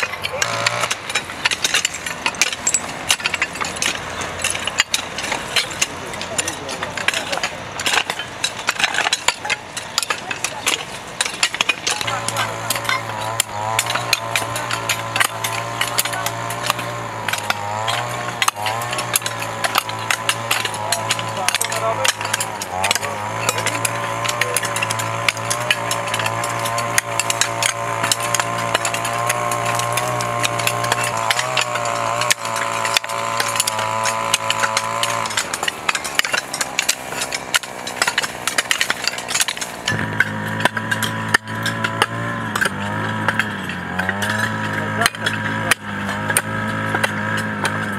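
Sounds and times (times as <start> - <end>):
hoes striking stony soil: 0.0 - 47.9
steady motor hum: 0.0 - 47.9.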